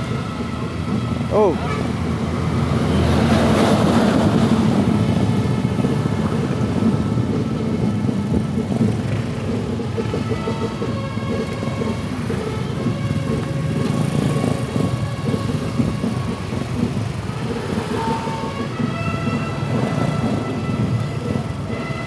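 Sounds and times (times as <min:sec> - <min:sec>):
motorcycle engines running: 0:00.0 - 0:21.8.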